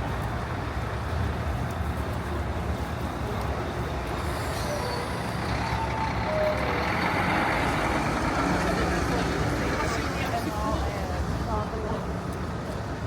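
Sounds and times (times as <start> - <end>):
heavy vehicle engine rumble: 0.0 - 13.0
street traffic: 0.0 - 13.0.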